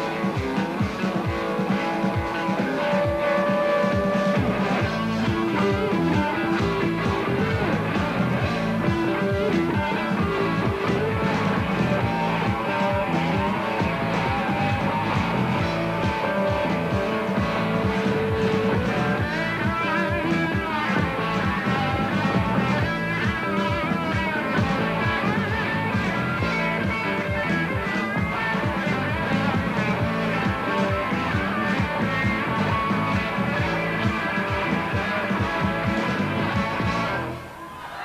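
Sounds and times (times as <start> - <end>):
drums steady beat: 0.0 - 37.7
electric guitar: 0.0 - 37.8
bass: 0.0 - 38.0.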